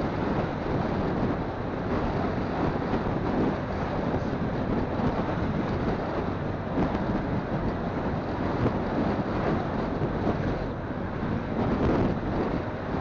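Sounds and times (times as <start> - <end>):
motorcycle engine and road rumble: 0.0 - 13.0
wind buffeting microphone: 0.0 - 13.0.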